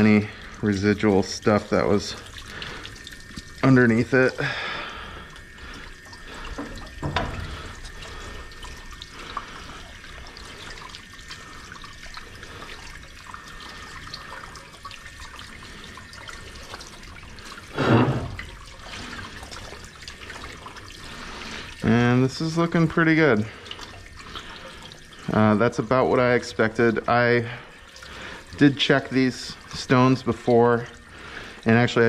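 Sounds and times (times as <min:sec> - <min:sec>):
water spraying from hose nozzle: 0:00.0 - 0:32.0.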